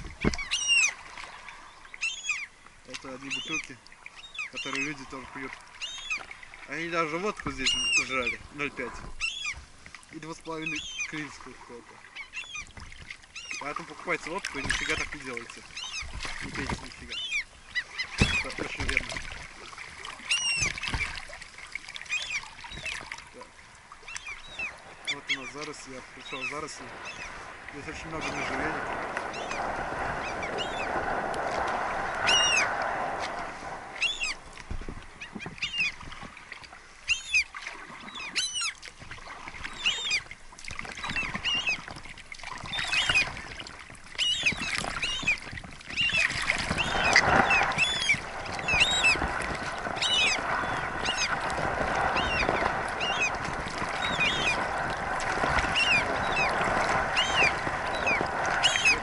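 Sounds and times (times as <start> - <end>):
birds calling overhead: 0.0 - 9.6, 10.2 - 59.0.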